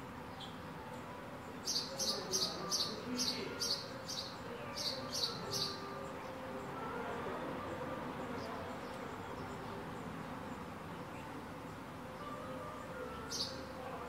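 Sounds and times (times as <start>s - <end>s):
low hum of street: 0.0s - 14.0s.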